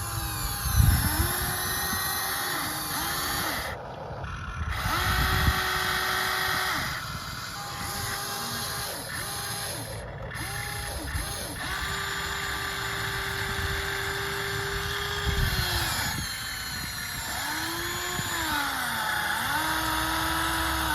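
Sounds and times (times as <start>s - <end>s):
electric motors whining: 0.0s - 20.9s.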